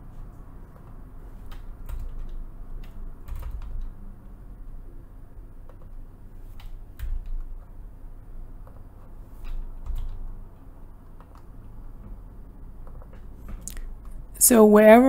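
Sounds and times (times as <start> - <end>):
low steady hum: 0.0 - 15.0
keyboard typing: 0.6 - 4.8, 5.6 - 7.8, 8.5 - 14.3.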